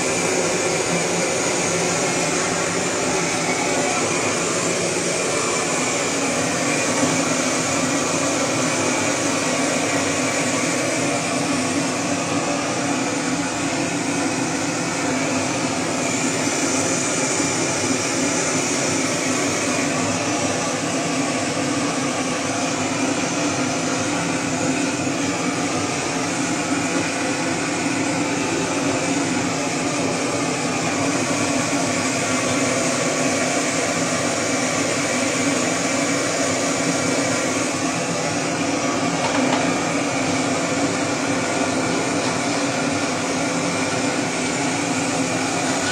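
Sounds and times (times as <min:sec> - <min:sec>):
gas torch hissing: 0:00.0 - 0:45.9.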